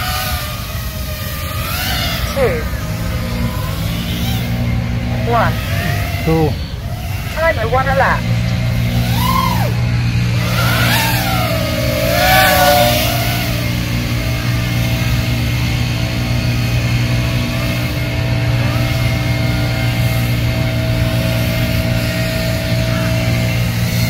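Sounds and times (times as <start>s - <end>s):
constant low hum: 0.0s - 24.0s
drone motors whining: 0.0s - 24.0s.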